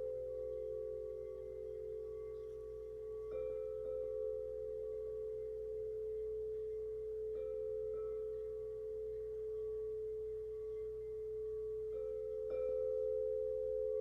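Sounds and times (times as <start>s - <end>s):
higher singing bowl tone: 0.0s - 14.0s
singing bowl humming: 0.0s - 14.0s.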